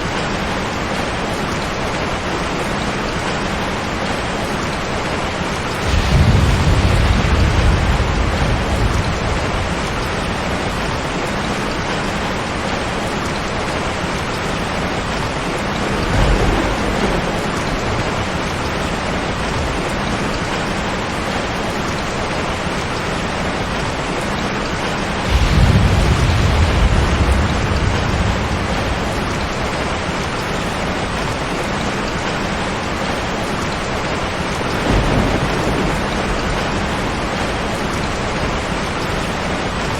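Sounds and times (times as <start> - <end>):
heavy rain: 0.0 - 39.9
thunder rumbling: 1.9 - 39.9.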